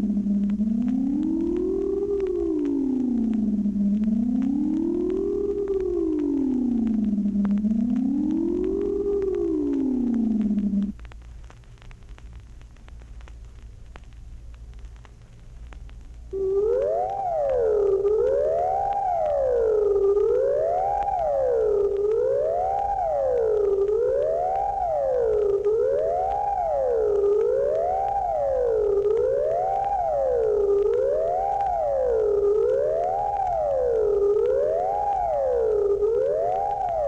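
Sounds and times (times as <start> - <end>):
gliding siren-like electronic tone: 0.0 - 10.9, 16.3 - 37.0
record crackle and hum: 0.0 - 37.0.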